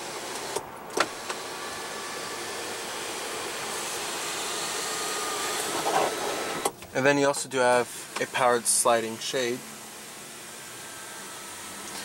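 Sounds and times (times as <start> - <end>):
sunroof motor humming: 0.0 - 12.0.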